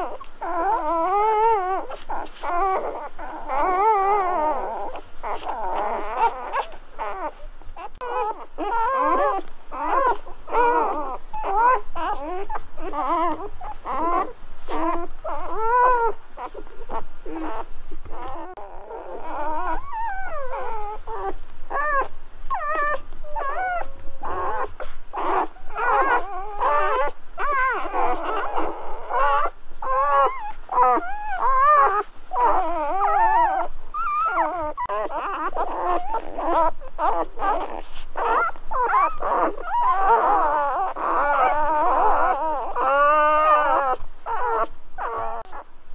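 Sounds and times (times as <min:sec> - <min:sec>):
puppies whimpering and squealing: 0:00.0 - 0:45.7.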